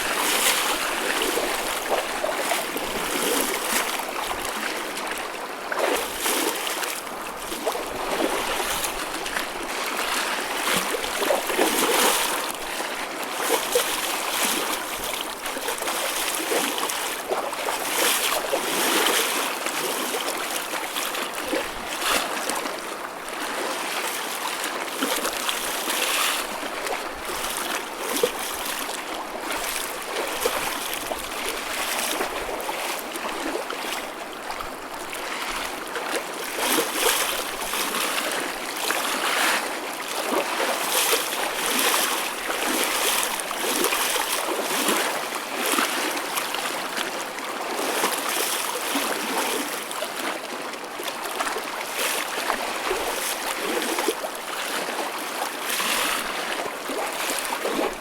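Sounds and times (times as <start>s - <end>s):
sea water sloshing and splashing: 0.0s - 58.0s.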